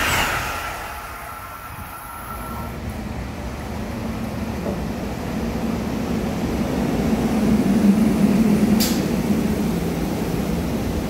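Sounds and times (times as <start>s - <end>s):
electric train pulling into station: 0.0s - 11.0s.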